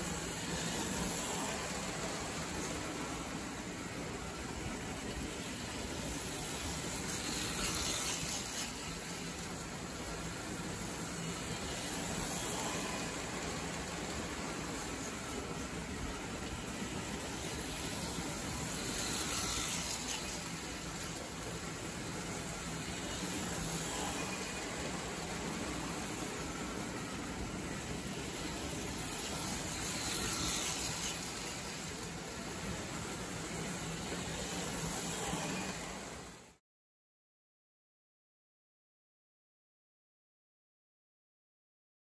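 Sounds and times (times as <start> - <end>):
toy train motor whir: 0.0 - 36.6
toy train rolling rumble: 0.0 - 36.6.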